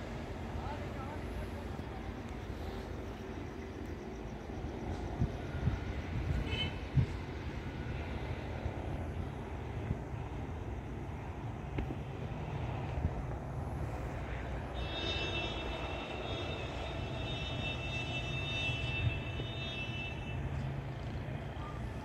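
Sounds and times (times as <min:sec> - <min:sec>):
aircraft engine rumble: 0:00.0 - 0:22.0
high engine whine: 0:00.0 - 0:22.0.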